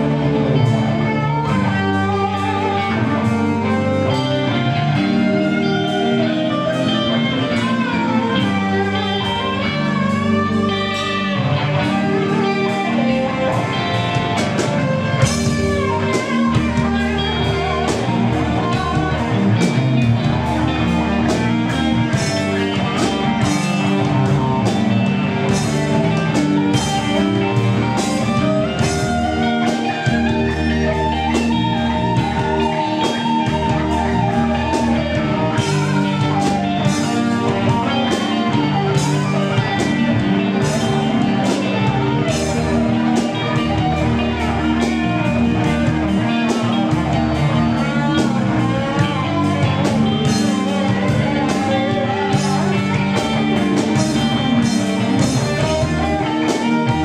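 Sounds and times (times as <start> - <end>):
electric guitar bent notes: 0.0 - 57.0
live rock band playing: 0.0 - 57.0.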